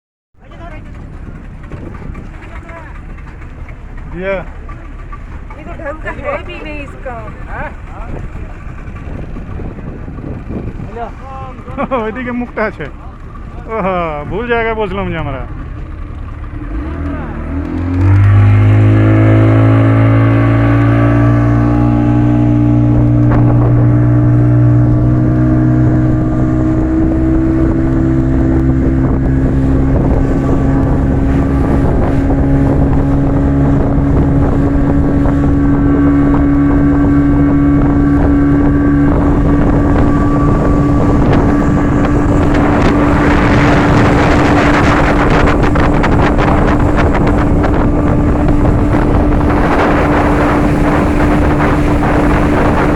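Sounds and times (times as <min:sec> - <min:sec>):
rushing wind and water: 0:00.4 - 0:52.9
speedboat engine throttling up: 0:00.4 - 0:52.9.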